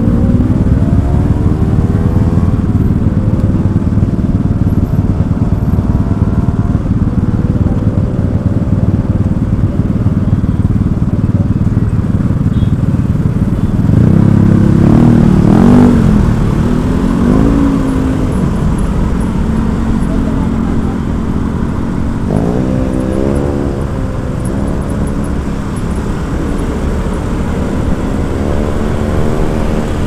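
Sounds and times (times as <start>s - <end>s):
motorcycle engine revving: 0.0s - 30.0s
road and wind noise: 0.0s - 30.0s.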